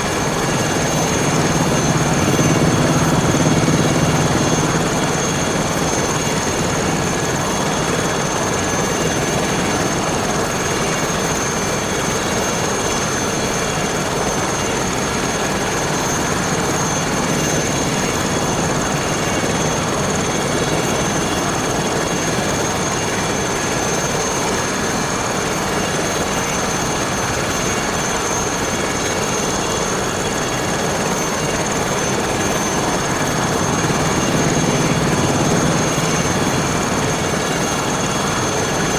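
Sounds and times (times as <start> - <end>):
helicopter running with high whine: 0.0 - 38.9.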